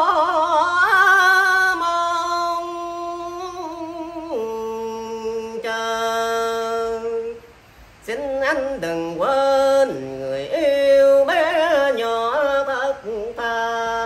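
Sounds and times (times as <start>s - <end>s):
man singing sustained notes: 0.0s - 14.0s.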